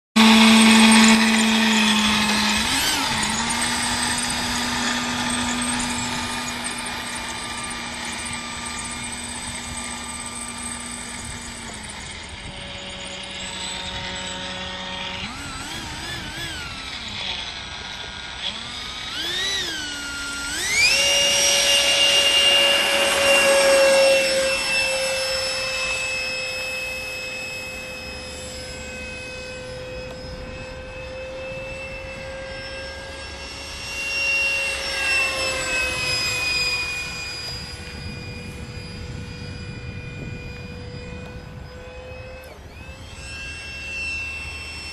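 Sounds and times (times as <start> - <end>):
electric ducted fan whining: 0.2 - 44.9.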